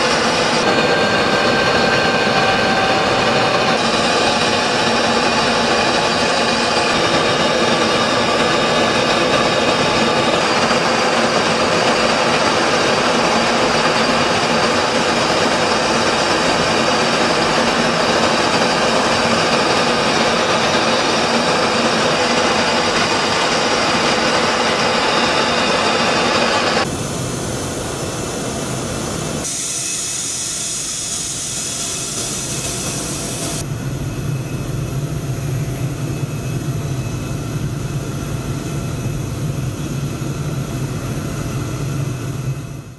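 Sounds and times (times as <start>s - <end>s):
rushing air: 0.0s - 36.2s
jet engine noise: 0.0s - 42.9s.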